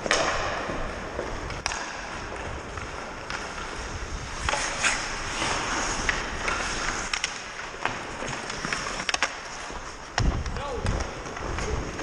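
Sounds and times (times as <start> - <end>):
hockey stick and puck clicks: 0.0 - 12.0
skates scraping on ice: 0.0 - 12.0.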